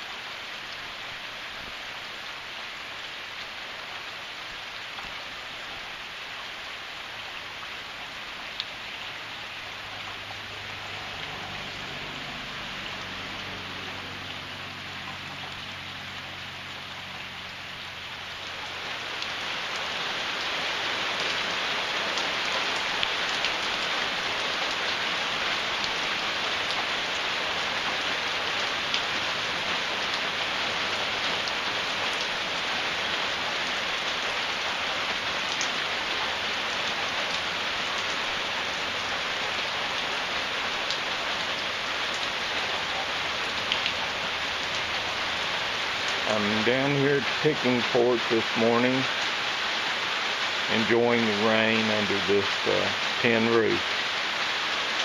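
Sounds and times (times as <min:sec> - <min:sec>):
heavy rain on a tin roof: 0:00.0 - 0:55.0.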